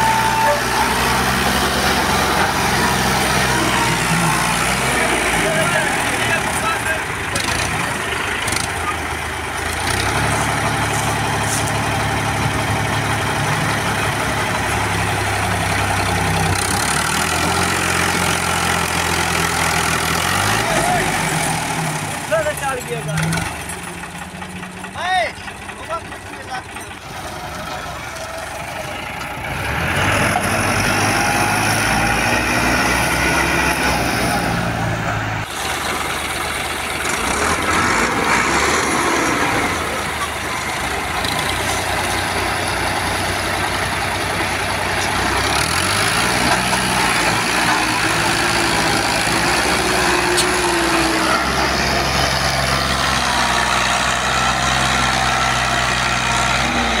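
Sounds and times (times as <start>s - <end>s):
diesel tractor engines labouring: 0.0s - 57.0s.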